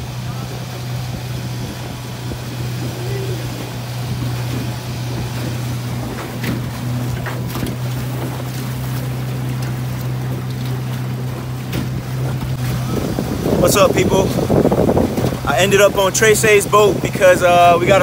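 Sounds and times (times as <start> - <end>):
outboard motor running: 0.0 - 18.0
water noise: 0.0 - 18.0
wind: 0.0 - 18.0.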